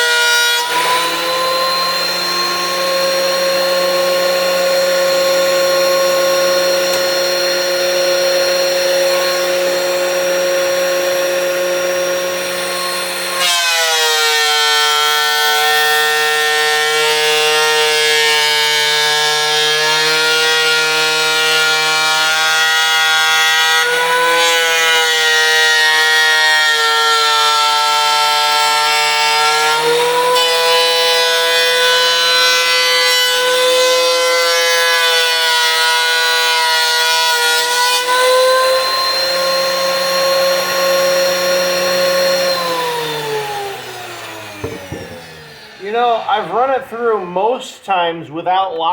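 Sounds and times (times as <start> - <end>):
thickness planer motor whine: 0.0 - 47.6.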